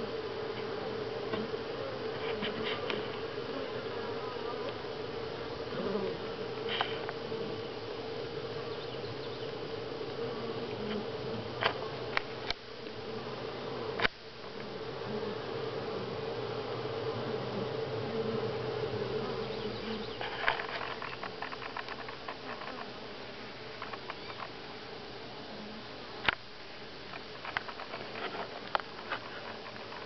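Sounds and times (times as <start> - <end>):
bees humming: 0.0 - 30.0.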